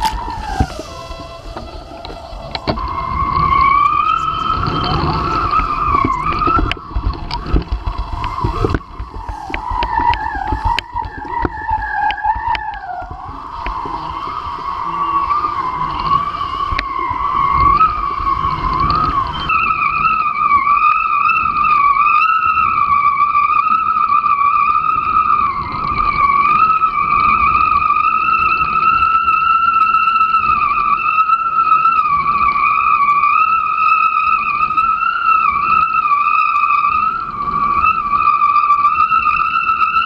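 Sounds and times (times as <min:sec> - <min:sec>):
high wavering whistle: 0:00.0 - 0:40.0
wind and water rushing: 0:00.0 - 0:40.0.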